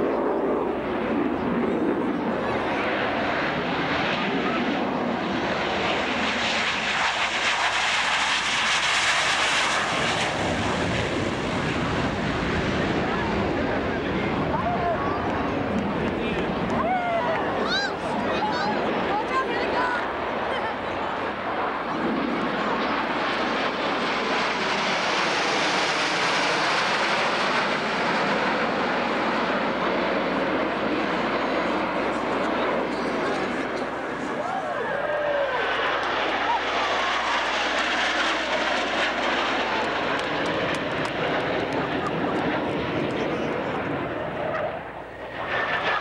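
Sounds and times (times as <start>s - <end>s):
jet roar flying past: 0.0s - 46.0s.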